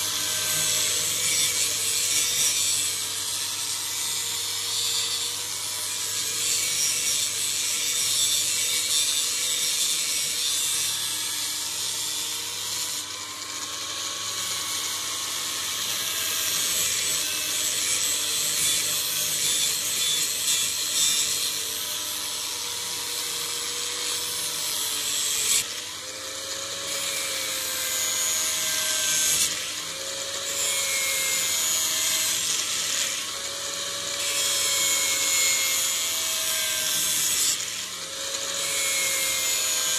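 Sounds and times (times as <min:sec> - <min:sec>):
knife grinding on power grinder: 0:00.0 - 0:39.9.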